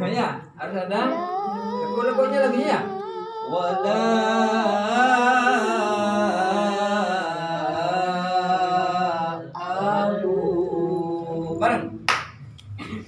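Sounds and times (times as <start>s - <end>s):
man chanting recitation: 0.0s - 12.1s.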